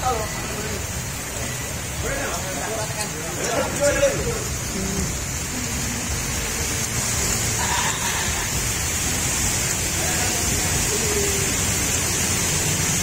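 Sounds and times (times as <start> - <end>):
heavy rain on wet paving: 0.0 - 13.0.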